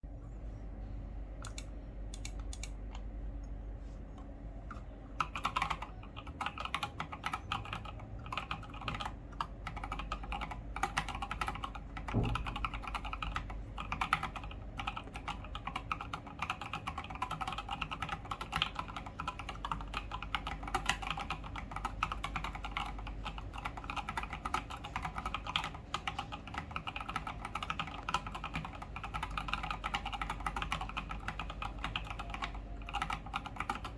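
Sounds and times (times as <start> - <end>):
typing on mechanical keyboard: 5.2 - 33.9.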